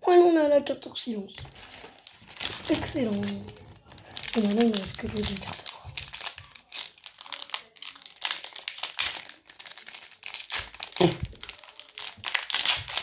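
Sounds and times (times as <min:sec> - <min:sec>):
plastic wrapper crinkling: 0:01.3 - 0:13.0.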